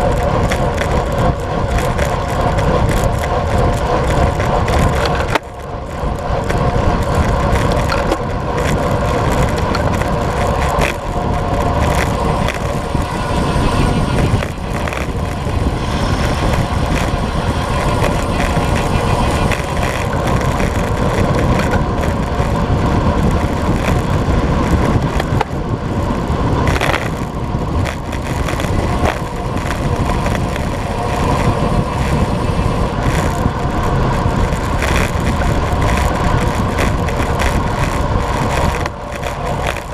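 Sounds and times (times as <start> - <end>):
bike tyres on asphalt: 0.0 - 39.9
wind rushing over microphone: 0.0 - 39.9.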